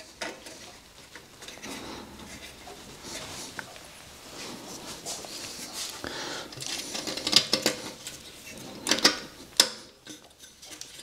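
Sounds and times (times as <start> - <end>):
rustling handling noise: 0.0 - 11.0.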